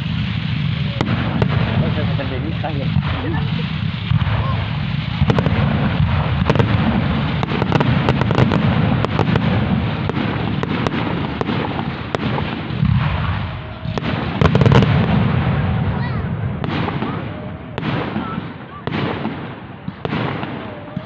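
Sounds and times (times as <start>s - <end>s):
fireworks bangs: 0.0s - 21.0s
fireworks cracks and crackles: 0.0s - 21.0s
fireworks shell bursts rumbling: 0.0s - 21.0s.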